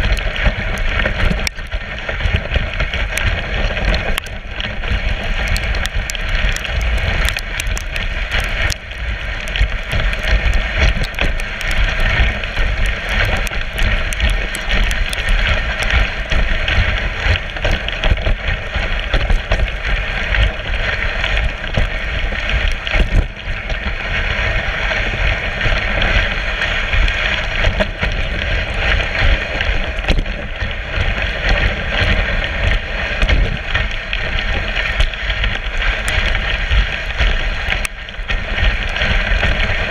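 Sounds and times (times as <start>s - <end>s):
low rumble: 0.0s - 39.9s
sled knocks and rattles: 0.0s - 39.9s
sled runners scraping snow: 0.0s - 39.9s.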